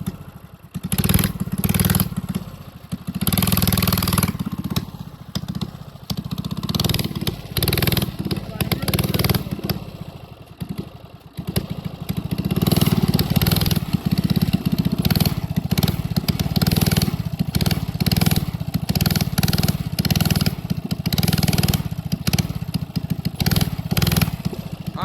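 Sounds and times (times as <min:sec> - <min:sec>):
mini bike engine revving: 0:00.0 - 0:25.0.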